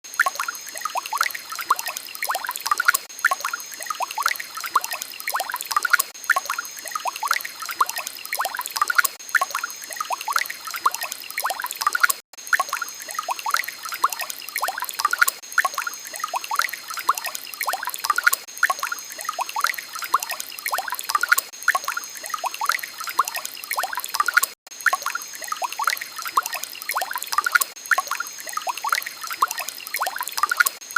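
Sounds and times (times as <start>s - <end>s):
water trickling and bubbling: 0.0s - 30.9s.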